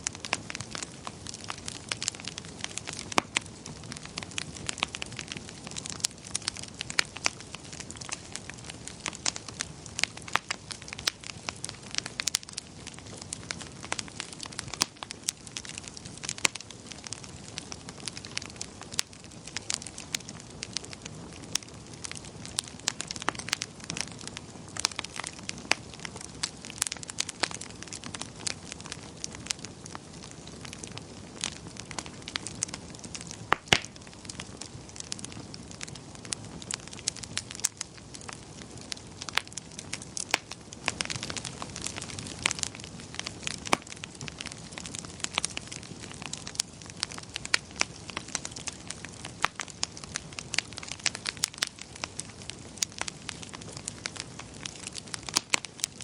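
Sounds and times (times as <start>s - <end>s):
burning logs crackling and popping: 0.0s - 56.0s
low rush of flames: 0.0s - 56.0s.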